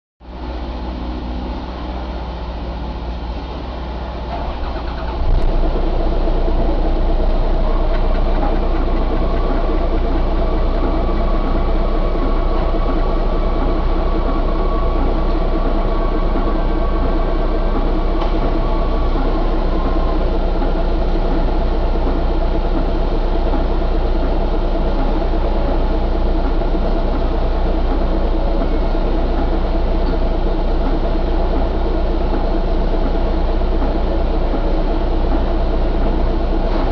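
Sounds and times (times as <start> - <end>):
diesel engine running: 0.2 - 36.9.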